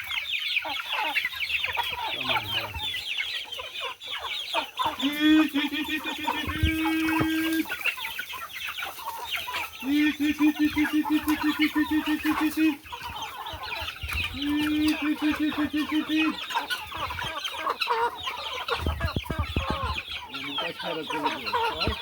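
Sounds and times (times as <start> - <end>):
chickens clucking and chirping: 0.0 - 22.0.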